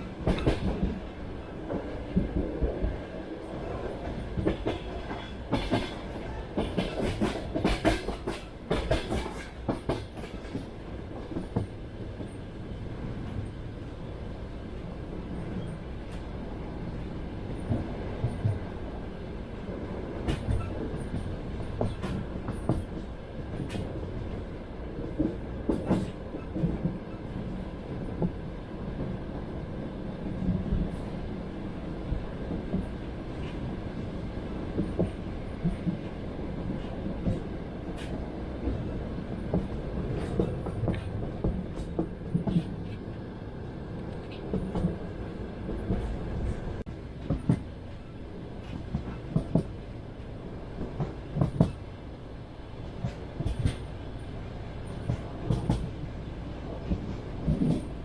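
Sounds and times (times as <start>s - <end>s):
train carriage rumbling: 0.0s - 58.0s.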